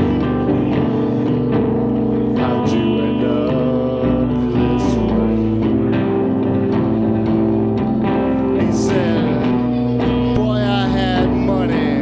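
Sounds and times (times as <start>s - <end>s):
guitar sustained and plucked notes: 0.0s - 12.0s.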